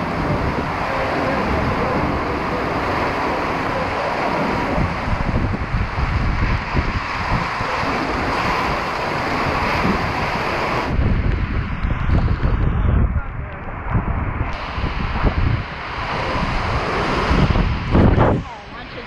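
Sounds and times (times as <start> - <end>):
rain hissing on water: 0.0 - 13.8, 14.4 - 19.0
wind buffeting microphone: 0.0 - 19.0.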